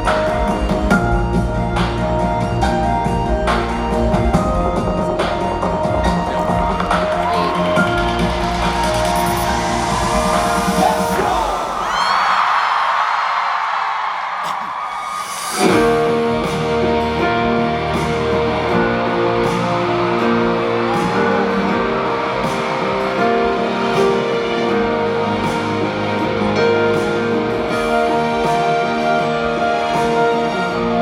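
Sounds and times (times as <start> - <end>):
drums: 0.0 - 12.4, 14.4 - 31.0.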